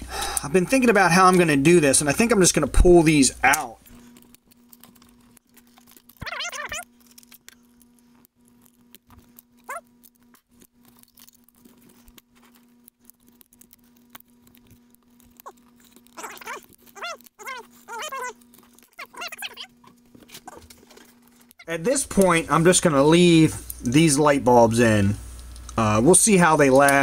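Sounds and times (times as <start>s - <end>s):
faint steady hum: 0.0s - 27.0s
fingers clicking and rustling wires: 0.7s - 24.0s.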